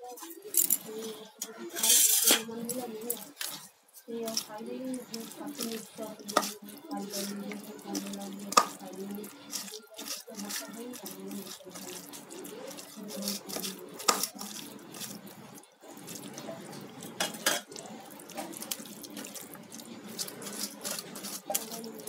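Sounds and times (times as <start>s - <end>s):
wet squelching of batter by hand: 2.6s - 22.0s.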